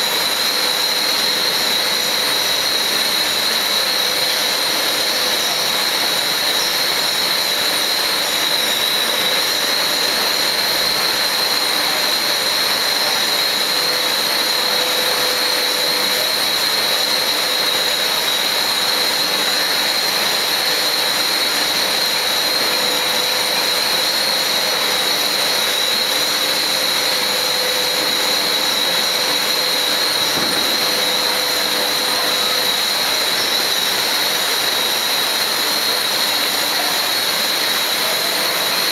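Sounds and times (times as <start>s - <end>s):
casting machine hissing roar: 0.0s - 38.9s
constant high whistle: 0.0s - 38.9s.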